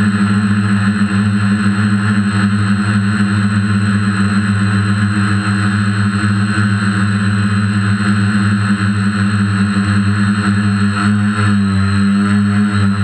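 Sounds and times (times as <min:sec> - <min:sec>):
quadcopter motors humming: 0:00.0 - 0:13.0.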